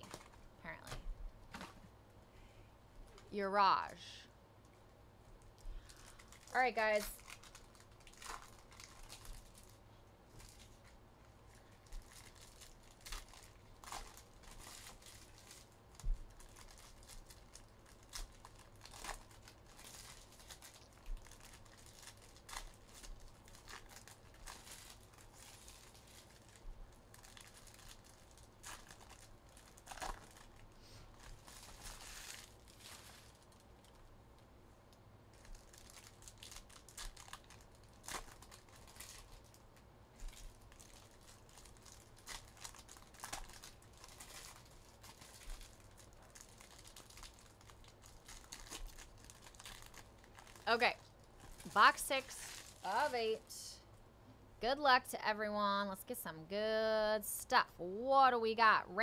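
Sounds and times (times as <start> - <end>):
plastic wrapping crinkling and tearing: 0.0 - 1.8, 5.4 - 34.2, 35.2 - 53.5.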